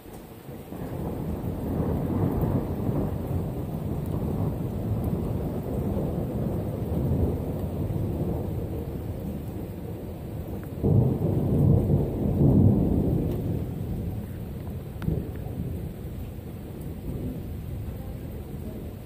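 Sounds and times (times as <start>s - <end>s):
thunder rumbling: 0.5s - 19.0s.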